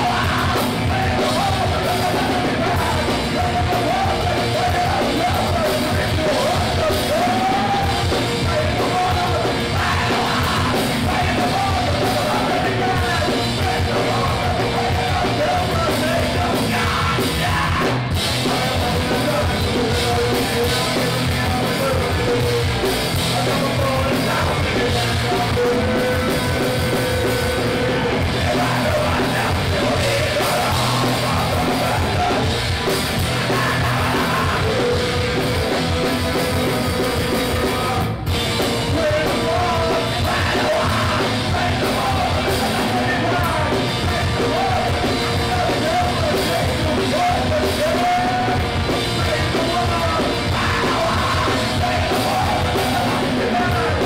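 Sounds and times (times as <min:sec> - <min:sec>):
singer yelling into microphone: 0:00.0 - 0:38.2, 0:38.8 - 0:54.0
live rock band playing: 0:00.0 - 0:54.0.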